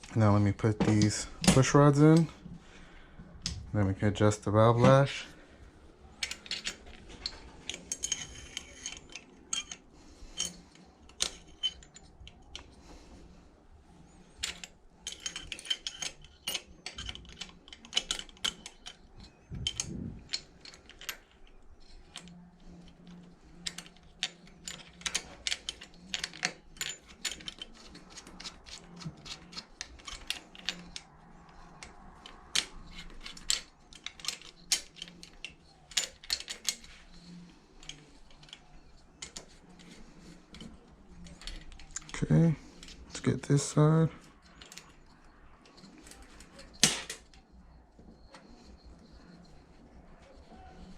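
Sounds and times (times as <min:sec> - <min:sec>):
metallic clicks of engine parts: 0:06.0 - 0:13.1, 0:14.3 - 0:50.9.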